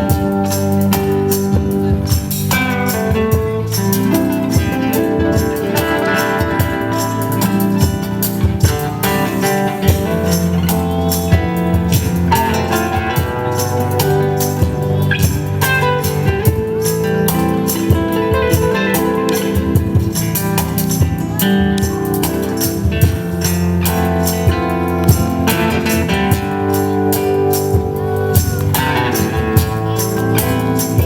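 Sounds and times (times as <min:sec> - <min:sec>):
plucked strings: 0:00.0 - 0:31.0
steady beat: 0:00.0 - 0:31.0.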